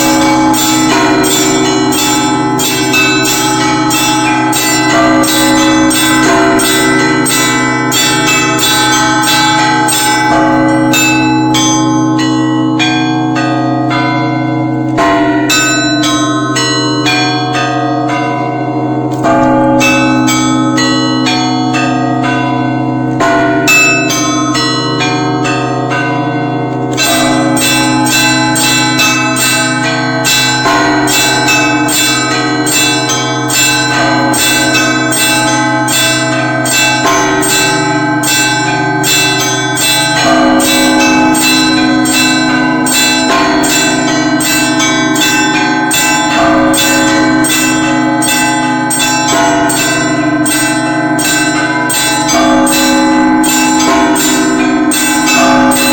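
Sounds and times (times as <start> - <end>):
deep hum of large bell: 0.0 - 55.9
small church bells chiming: 0.0 - 55.9.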